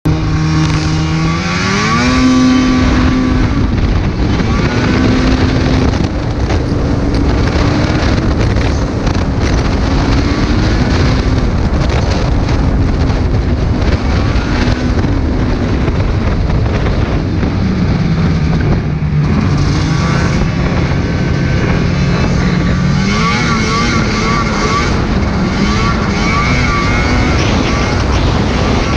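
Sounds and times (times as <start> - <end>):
snowmobile engine revving: 0.0 - 28.9
track and wind noise: 0.0 - 28.9.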